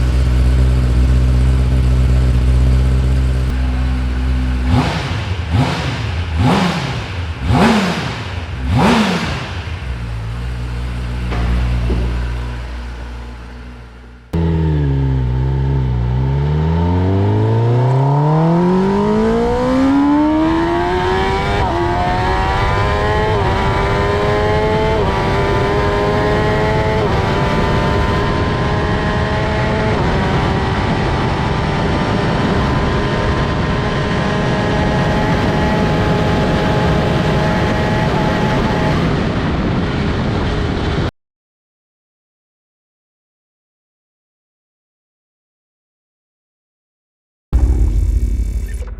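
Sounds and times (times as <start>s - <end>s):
motorcycle engine accelerating: 0.0s - 41.1s, 47.6s - 48.9s.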